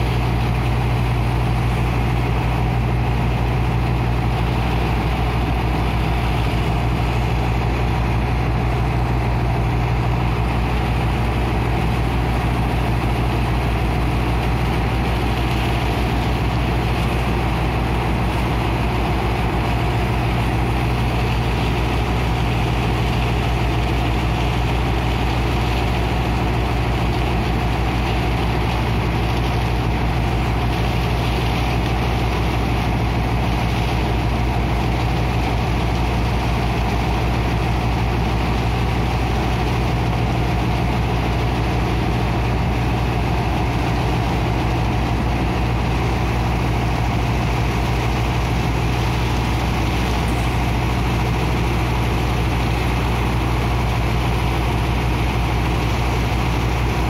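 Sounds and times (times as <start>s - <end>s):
pump engine running: 0.0s - 57.0s
water rushing from hoses: 0.0s - 57.0s.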